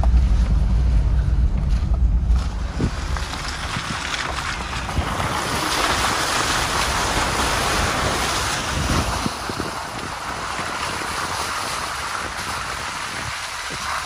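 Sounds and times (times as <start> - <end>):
low engine rumble: 0.0 - 14.0
vehicle splashing through mud: 0.0 - 14.0.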